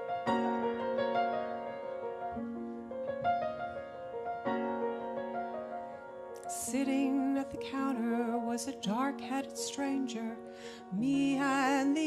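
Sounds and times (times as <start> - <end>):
piano playing broken chords: 0.0 - 12.0.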